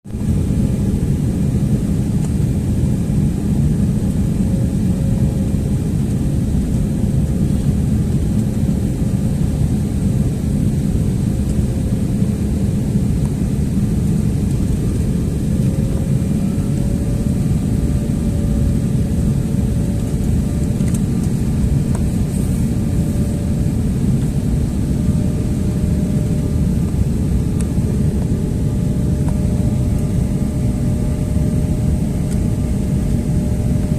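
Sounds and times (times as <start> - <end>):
airliner engines and airflow rushing: 0.1 - 33.9
faint humming tone: 0.2 - 33.9.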